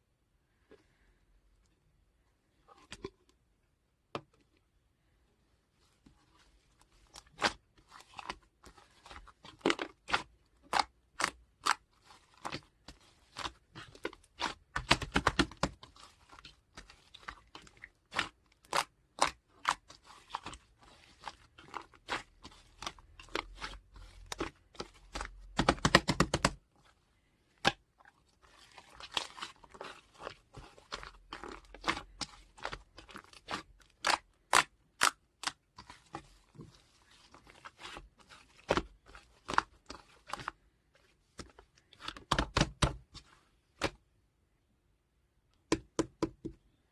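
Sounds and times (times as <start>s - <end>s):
crackling slime squishes: 6.0s - 44.0s.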